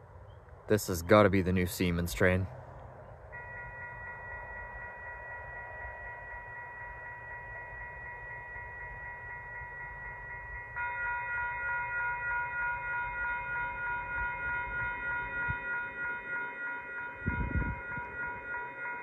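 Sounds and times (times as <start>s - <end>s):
level crossing bell ringing: 3.3s - 19.0s.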